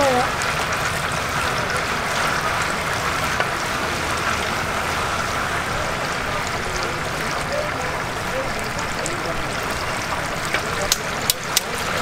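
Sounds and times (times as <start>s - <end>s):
oil bubbling and sizzling: 0.0s - 12.0s.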